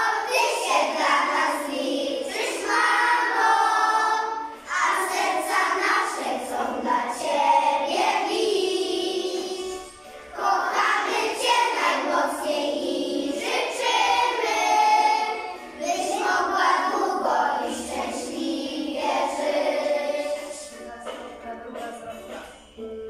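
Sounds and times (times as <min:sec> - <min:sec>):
children singing: 0:00.0 - 0:22.3.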